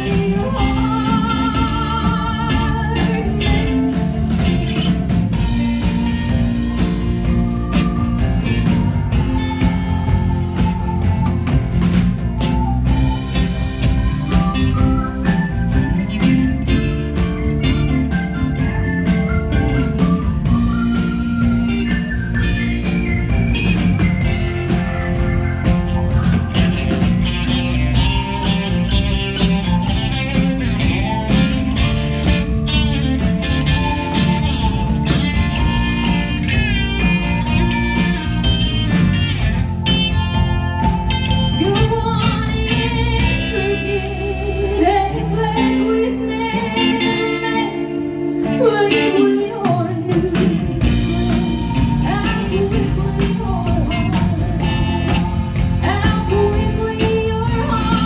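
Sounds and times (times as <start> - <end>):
bending lead guitar notes: 0.0 - 58.0
country-rock band playing: 0.0 - 58.0.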